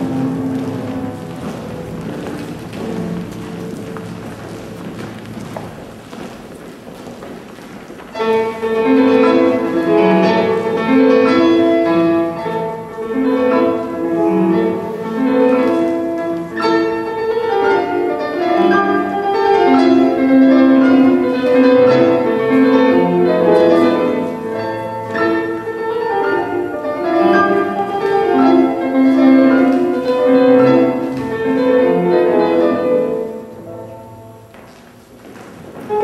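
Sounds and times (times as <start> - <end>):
piano music: 0.0 - 36.0.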